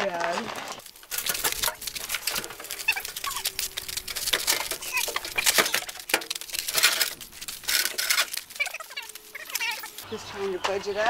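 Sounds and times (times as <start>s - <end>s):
washing machine scraping on ground: 0.0s - 11.0s.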